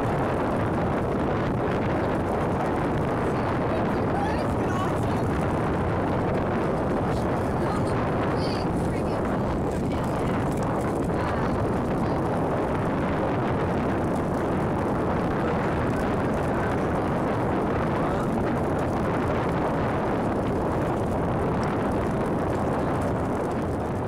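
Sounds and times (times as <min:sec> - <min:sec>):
volcano rumbling: 0:00.0 - 0:24.0.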